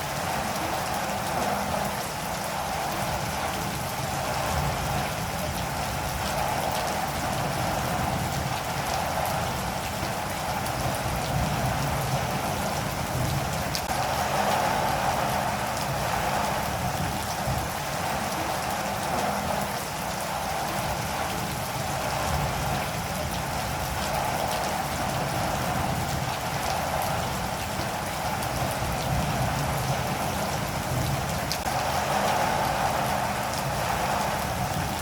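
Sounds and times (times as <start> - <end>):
individual raindrops: 0.0 - 35.0
steady rain falling: 0.0 - 35.0.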